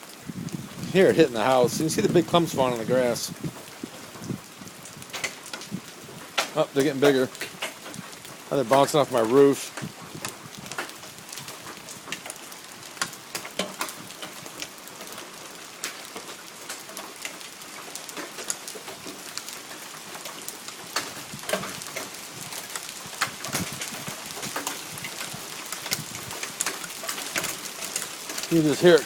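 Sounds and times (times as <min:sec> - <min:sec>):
hail hissing: 0:00.0 - 0:29.0
hailstones clacking on roof: 0:00.0 - 0:29.0.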